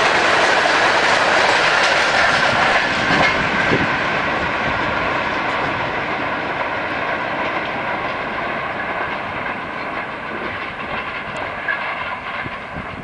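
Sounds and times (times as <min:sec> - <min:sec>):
train rushing clatter: 0:00.0 - 0:13.0.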